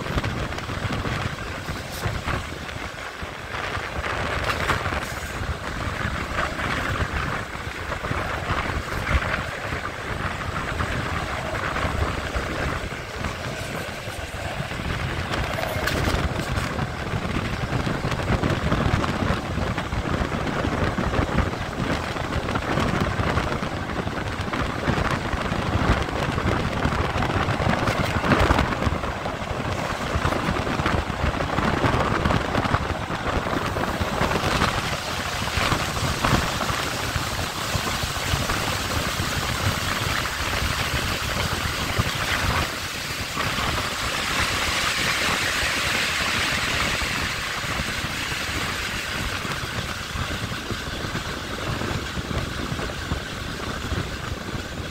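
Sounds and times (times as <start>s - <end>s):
train wheels on track: 0.0s - 54.9s
wind rush over microphone: 0.0s - 54.9s.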